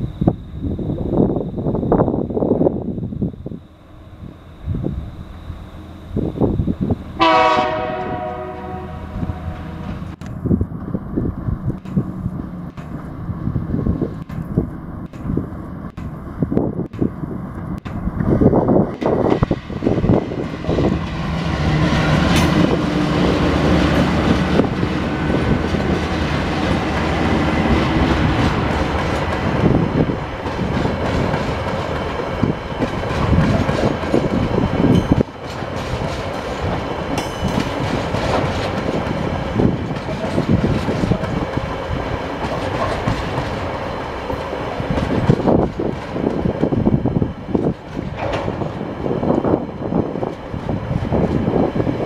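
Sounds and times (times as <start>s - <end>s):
diesel locomotive engine drone: 0.0s - 52.0s.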